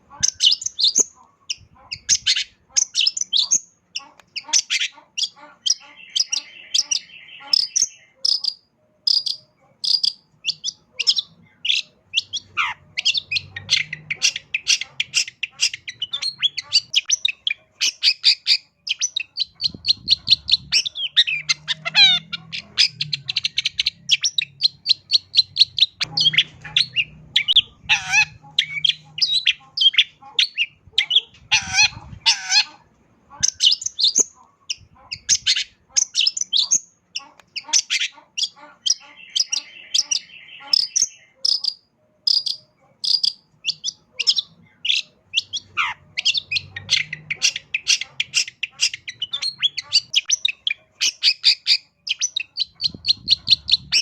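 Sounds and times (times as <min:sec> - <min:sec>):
bird singing rapid sharp chirps: 0:00.0 - 0:32.6, 0:33.4 - 0:54.0
buzzy bird trill: 0:00.1 - 0:32.8, 0:33.4 - 0:54.0.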